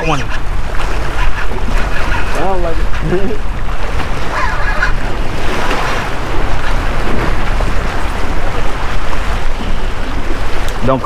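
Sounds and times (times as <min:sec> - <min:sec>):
waves splashing against rocks: 0:00.0 - 0:11.0
wind buffeting microphone: 0:00.0 - 0:11.0.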